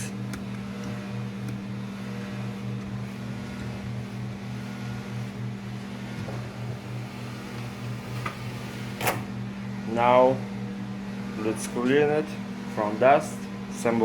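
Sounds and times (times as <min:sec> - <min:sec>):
low motor hum pulsing: 0:00.0 - 0:14.0.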